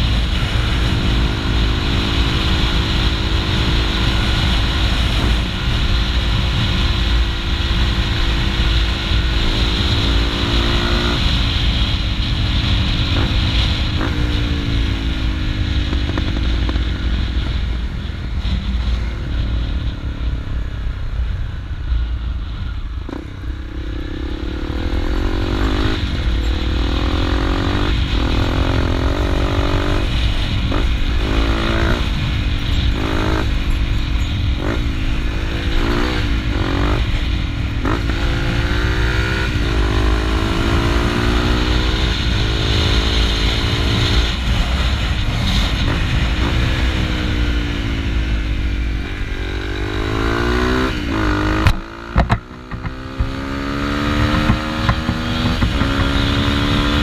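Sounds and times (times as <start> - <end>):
motorcycle engine revving: 0.0 - 21.3, 22.4 - 57.0
steady low rumble: 0.0 - 57.0.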